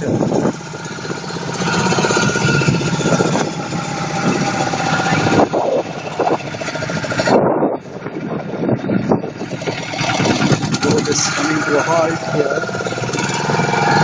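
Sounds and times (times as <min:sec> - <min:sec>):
boat motor puttering: 0:00.0 - 0:14.0.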